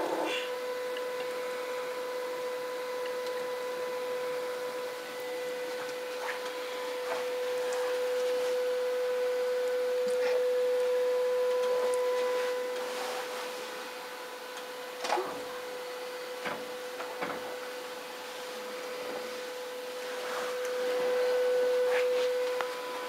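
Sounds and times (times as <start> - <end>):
steady whine: 0.0 - 23.0.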